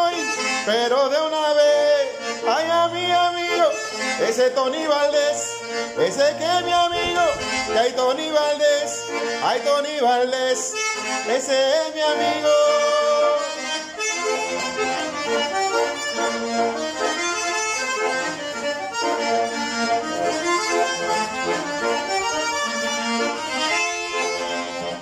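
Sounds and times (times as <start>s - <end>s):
button accordion playing merengue: 0.0s - 25.0s.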